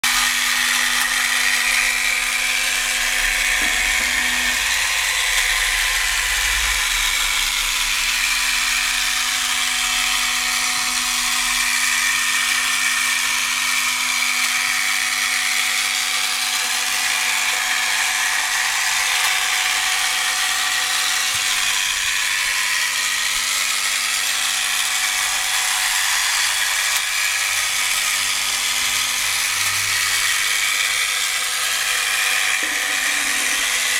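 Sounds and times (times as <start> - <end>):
small motor and gears whirring: 0.0 - 33.9.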